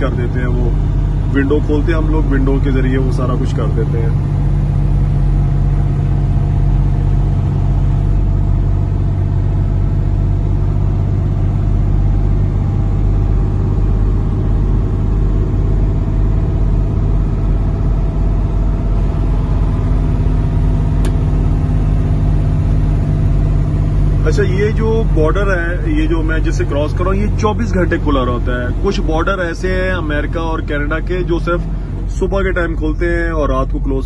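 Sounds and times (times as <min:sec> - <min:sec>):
diesel truck engine droning: 0:00.0 - 0:34.0
road noise: 0:00.0 - 0:34.0.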